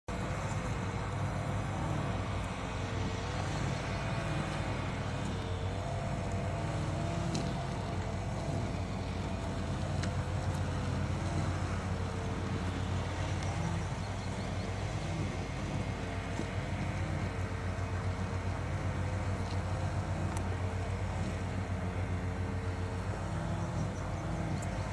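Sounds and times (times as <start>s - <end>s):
engine droning: 0.1s - 24.9s.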